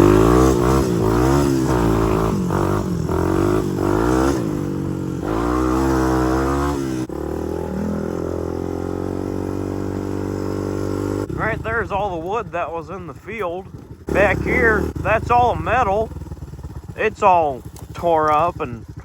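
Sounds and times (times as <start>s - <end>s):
atv engine revving: 0.0s - 19.0s.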